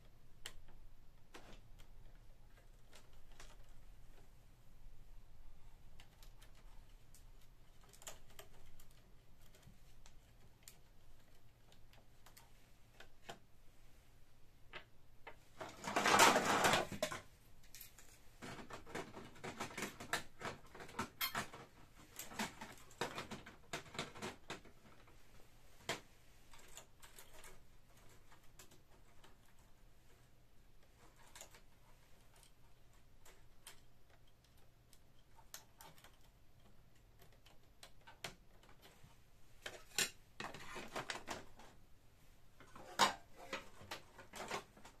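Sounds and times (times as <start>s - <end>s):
plastic clicks and rattles: 0.4s - 4.2s, 5.9s - 13.5s, 14.7s - 25.2s, 25.8s - 30.2s, 30.8s - 41.8s, 42.6s - 45.0s.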